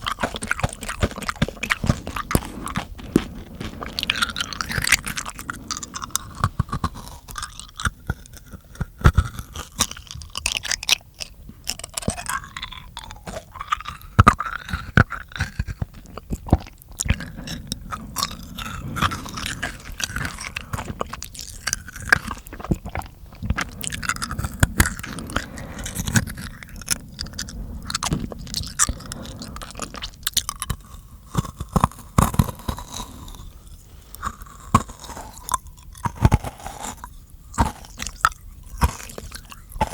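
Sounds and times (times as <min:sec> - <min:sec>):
mouth clicks and smacks: 0:00.0 - 0:39.9.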